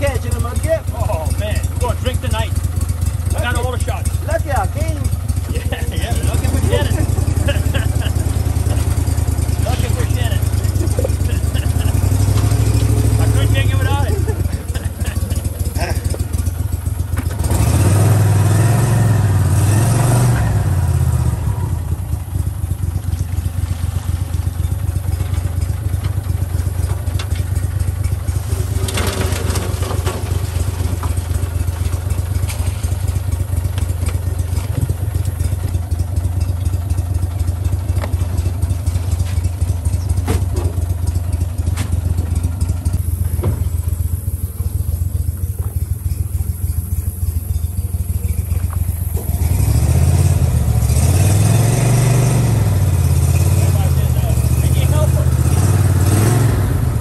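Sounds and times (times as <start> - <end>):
boat motor running: 0.0 - 18.9, 20.7 - 41.6, 42.2 - 51.2.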